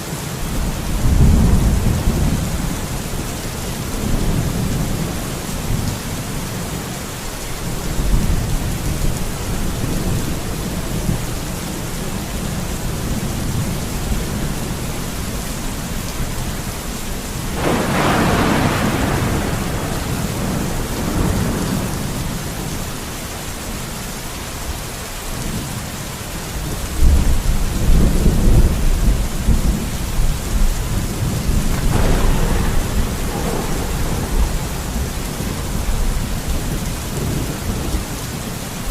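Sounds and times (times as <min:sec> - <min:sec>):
heavy rain: 0:00.0 - 0:38.9
rolling thunder: 0:00.4 - 0:23.2, 0:26.6 - 0:38.9.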